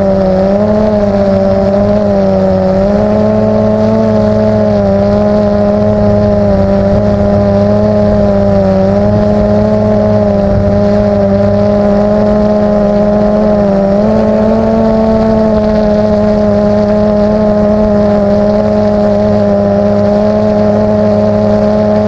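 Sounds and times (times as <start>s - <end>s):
drone propellers humming: 0.0s - 22.0s.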